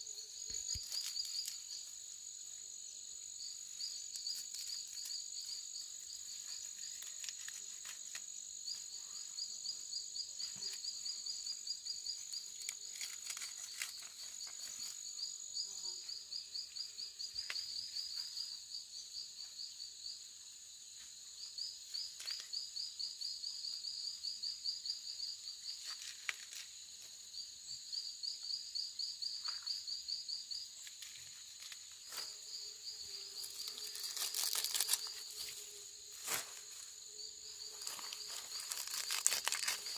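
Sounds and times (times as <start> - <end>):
insect high-pitched whine: 0.0 - 39.9
insects chirping: 0.0 - 39.9.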